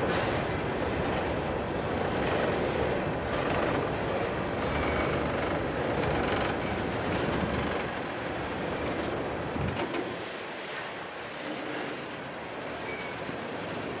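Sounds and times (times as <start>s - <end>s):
train wheels rumbling and clattering: 0.0s - 14.0s.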